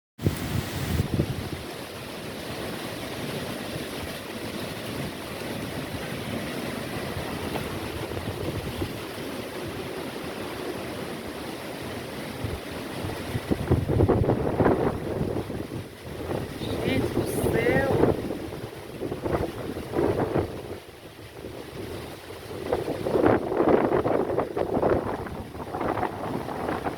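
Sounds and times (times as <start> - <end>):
strong wind buffeting microphone: 0.2 - 1.9, 4.8 - 11.5, 12.2 - 26.9.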